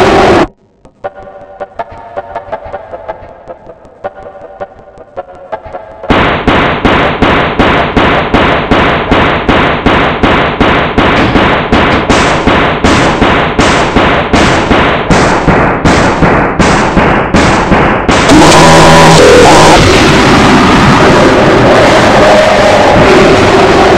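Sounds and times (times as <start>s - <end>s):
looped harsh noise burst: 0.0s - 23.9s.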